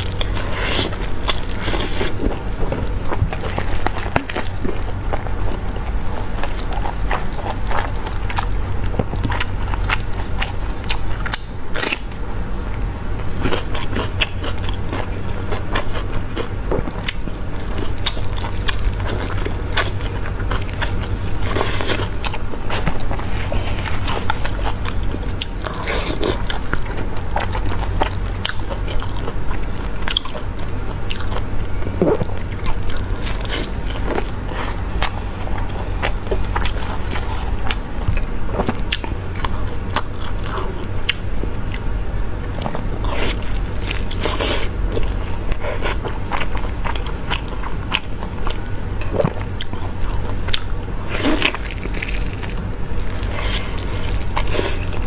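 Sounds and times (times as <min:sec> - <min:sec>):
person chewing meat: 0:00.0 - 0:55.0
steady low hum: 0:00.0 - 0:55.0.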